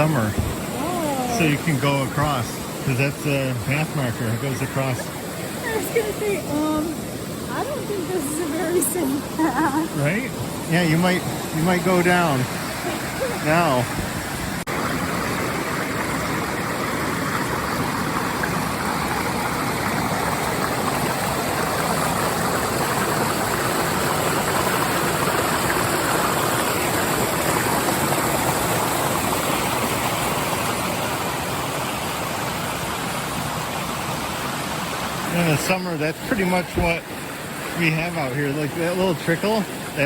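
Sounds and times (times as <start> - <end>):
waterfall and stream rushing: 0.0 - 40.0.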